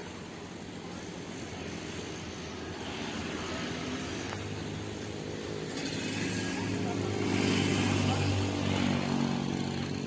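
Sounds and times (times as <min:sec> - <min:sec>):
engine rumble: 0:00.0 - 0:10.0.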